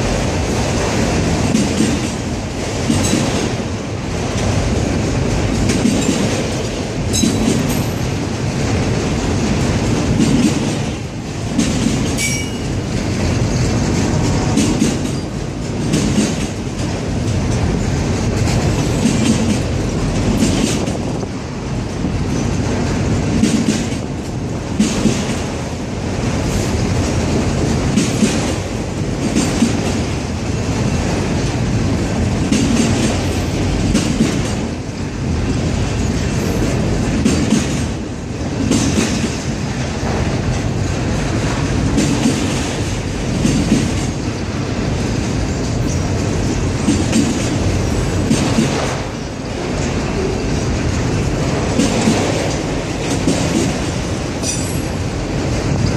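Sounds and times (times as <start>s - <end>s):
steel wheels rumbling on rail: 0.0s - 55.9s
wheels clicking over rail joints: 0.0s - 55.9s.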